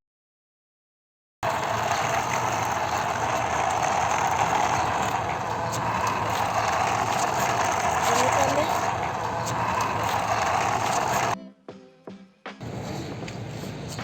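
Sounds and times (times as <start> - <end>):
mechanical whirring with rattle: 1.4 - 11.4, 12.6 - 14.0.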